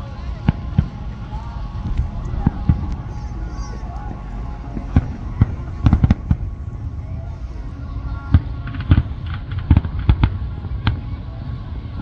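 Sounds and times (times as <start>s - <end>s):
fireworks bursting with deep booms: 0.4s - 3.4s, 4.0s - 7.2s, 8.0s - 12.0s.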